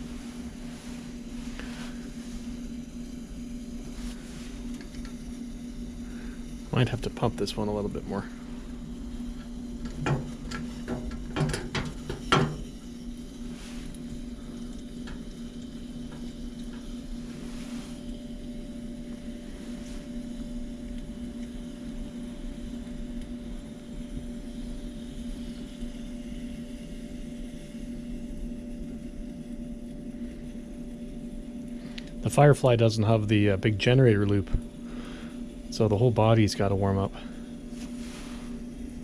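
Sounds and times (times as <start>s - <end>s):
constant low hum: 0.0s - 39.0s
stove flame burning: 0.0s - 39.0s.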